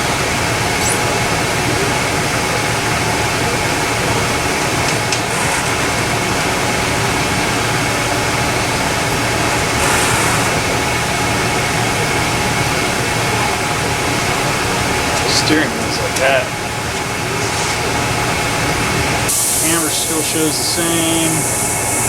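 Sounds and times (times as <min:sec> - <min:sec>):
mechanical drone: 0:00.0 - 0:22.0.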